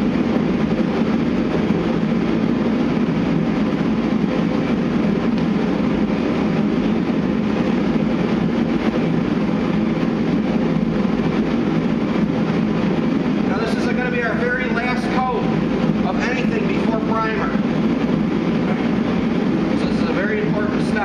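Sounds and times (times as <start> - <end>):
steady mechanical noise: 0.0 - 21.0.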